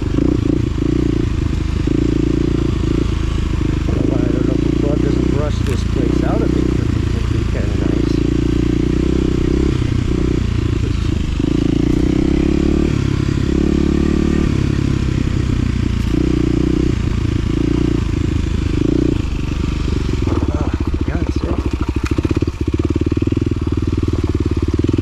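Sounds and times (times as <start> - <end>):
utility vehicle engine running: 0.0 - 25.0.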